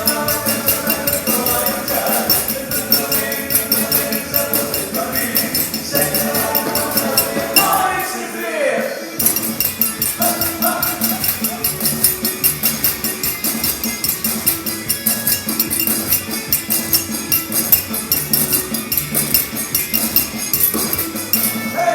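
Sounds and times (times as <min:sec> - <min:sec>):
percussion ensemble playing: 0:00.0 - 0:21.9.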